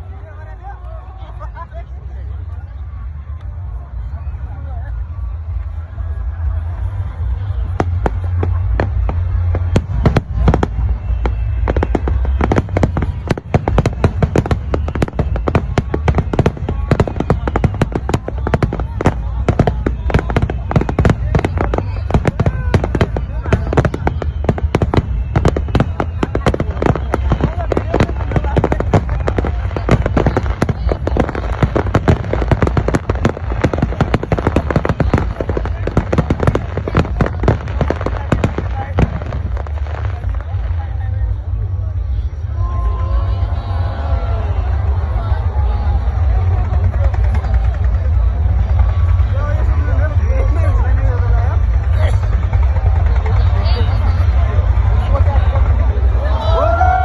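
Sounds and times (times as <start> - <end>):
fireworks cracking: 6.7 - 41.8, 44.7 - 56.3.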